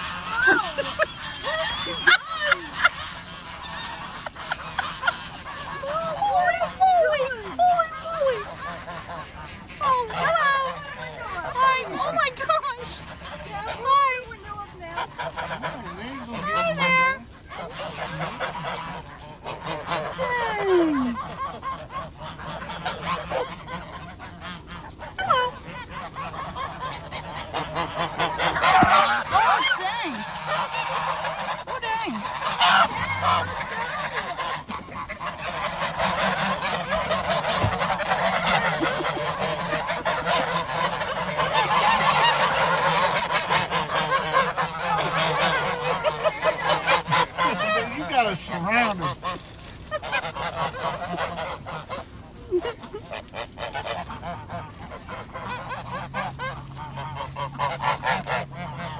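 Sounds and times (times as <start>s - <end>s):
geese honking: 0.0s - 58.9s.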